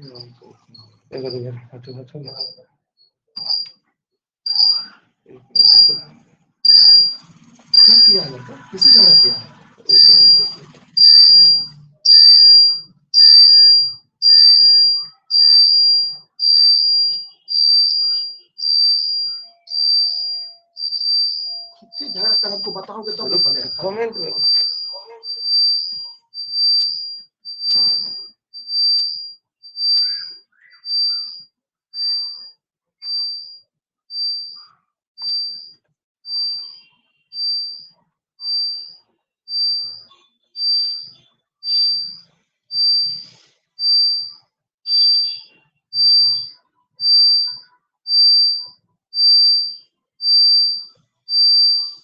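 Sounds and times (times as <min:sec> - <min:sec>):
high-pitched electronic beep: 0:00.0 - 0:02.6, 0:03.4 - 0:03.7, 0:04.5 - 0:33.6, 0:34.2 - 0:52.0.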